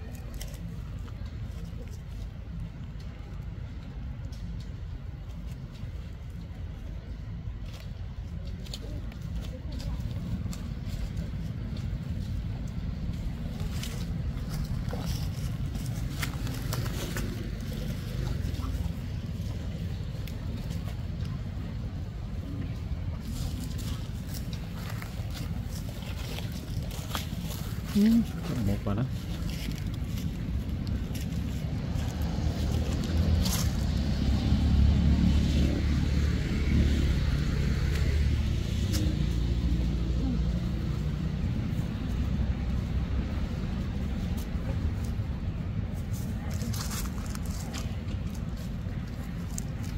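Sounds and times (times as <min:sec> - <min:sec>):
passing vehicle engine rumble: 0:00.0 - 0:49.9.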